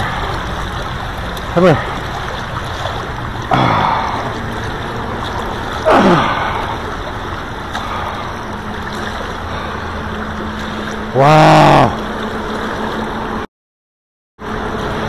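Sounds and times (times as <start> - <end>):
river water rushing and gurgling: 0.0 - 13.5, 14.4 - 15.0.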